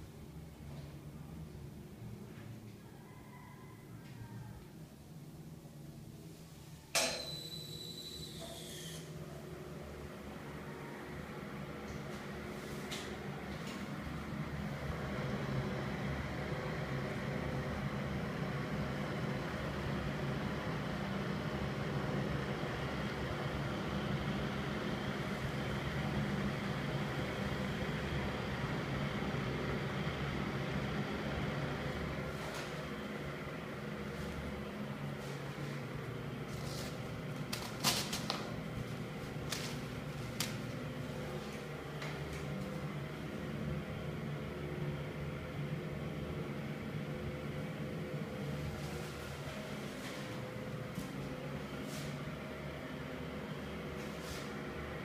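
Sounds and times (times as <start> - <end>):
exhaust fan air rush: 4.7 - 55.0
low motor hum: 8.2 - 55.0.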